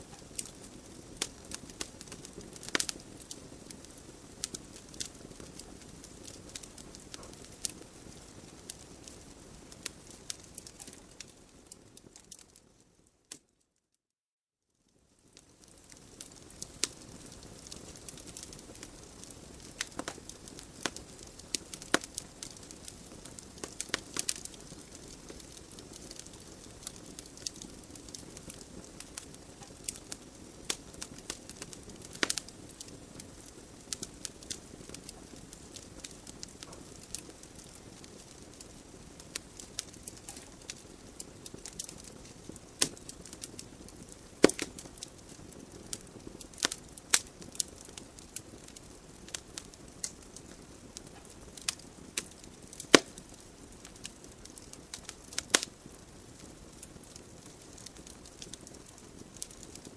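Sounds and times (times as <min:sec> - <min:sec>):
soft hiss of fire: 0:00.0 - 0:13.6, 0:14.7 - 0:59.9
wood fire crackling and popping: 0:00.0 - 0:13.6, 0:15.0 - 0:59.9.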